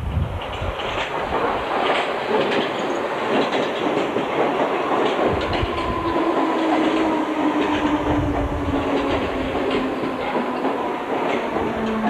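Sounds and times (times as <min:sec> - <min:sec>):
train wheels clattering: 0:00.1 - 0:12.0.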